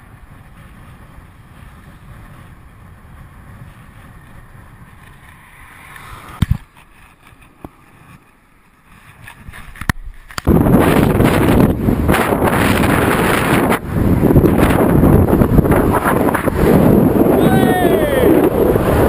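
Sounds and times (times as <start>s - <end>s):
wind rushing over microphone: 0.0s - 7.1s, 8.9s - 19.0s
road rumble: 0.0s - 19.0s.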